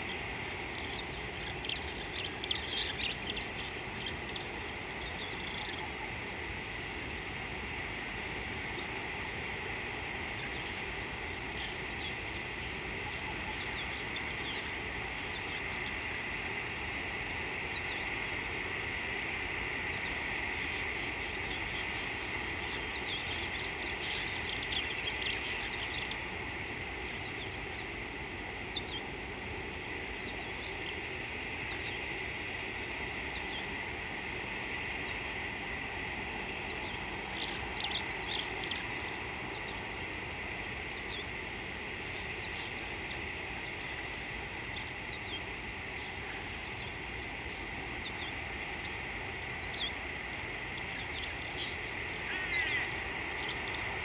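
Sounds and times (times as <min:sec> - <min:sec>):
short insect chirps: 0:00.0 - 0:06.6, 0:10.0 - 0:54.0
insects buzzing: 0:00.0 - 0:54.0.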